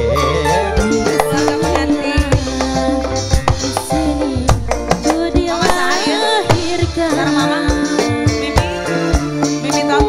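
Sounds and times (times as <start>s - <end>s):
live band music over a pa: 0.0s - 10.0s
hand drum strikes: 0.8s - 10.0s.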